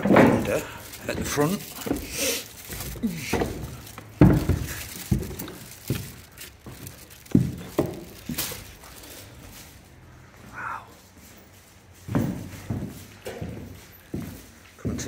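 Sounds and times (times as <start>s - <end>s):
footsteps on wooden stairs: 0.0s - 9.6s, 12.0s - 15.0s
footsteps on bare floor: 0.0s - 10.4s, 11.1s - 15.0s.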